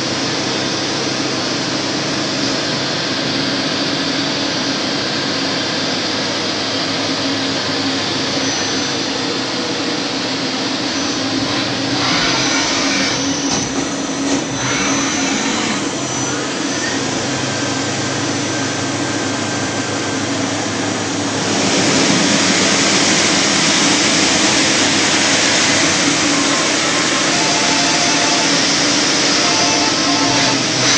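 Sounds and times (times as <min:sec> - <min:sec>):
lathe mechanical hum: 0:00.0 - 0:30.9.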